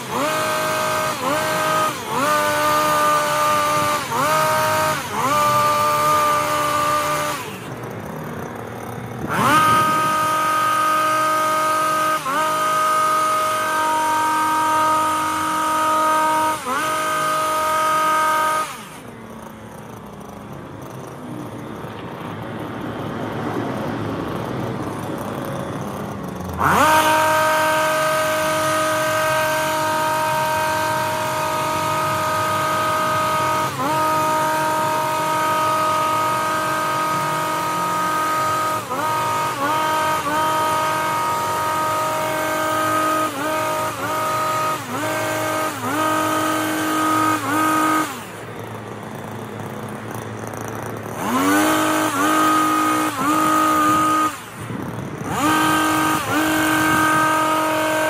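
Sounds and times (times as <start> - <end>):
hedge trimmer engine running: 0.0 - 58.0.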